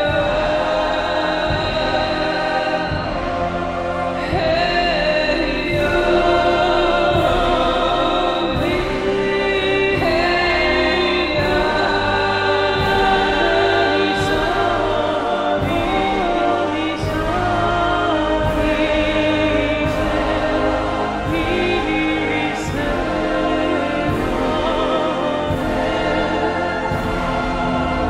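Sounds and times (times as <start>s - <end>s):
choir singing long notes: 0.0s - 28.0s
steady beat: 0.0s - 28.0s.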